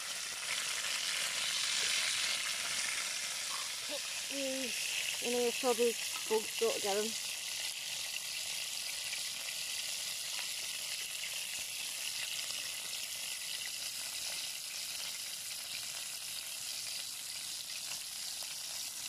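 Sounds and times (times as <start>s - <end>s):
burger patty sizzling: 0.0s - 19.0s.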